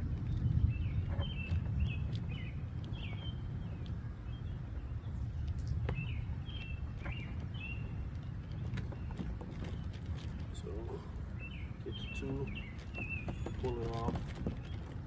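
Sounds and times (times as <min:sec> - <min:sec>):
low background rumble: 0:00.0 - 0:15.0
small birds chirping: 0:00.0 - 0:15.0.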